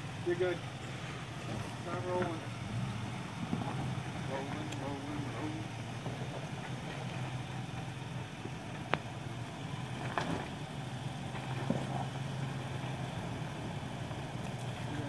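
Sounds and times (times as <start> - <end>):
truck engine at low revs: 0.0 - 15.0.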